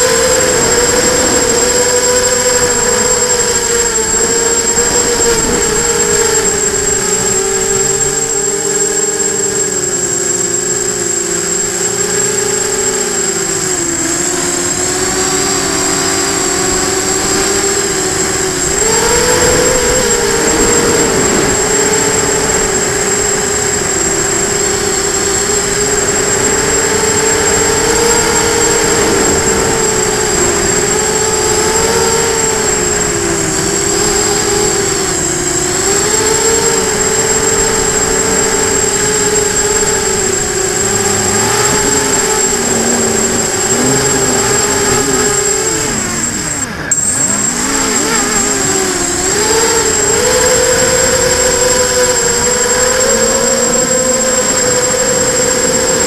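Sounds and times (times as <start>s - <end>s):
drone motors and propellers whining: 0.0s - 56.0s
steady high-pitched tone: 0.0s - 56.0s.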